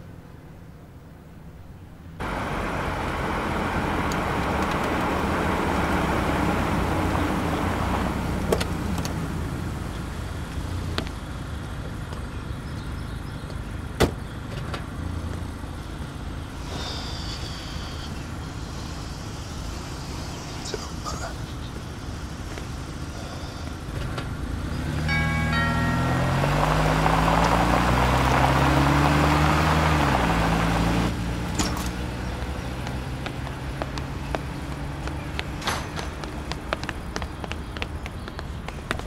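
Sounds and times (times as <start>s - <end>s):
car driving on road: 0.0s - 39.0s.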